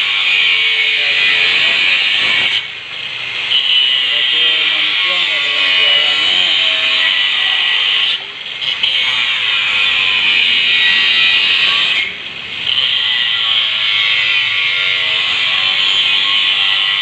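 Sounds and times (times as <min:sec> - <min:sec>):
welding arc crackling and hissing: 0:00.0 - 0:17.0.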